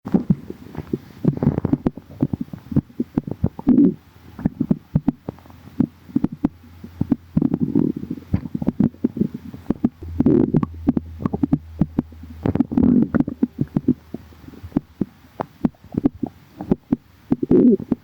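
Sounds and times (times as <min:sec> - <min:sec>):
stomach growling: 0:00.1 - 0:18.0.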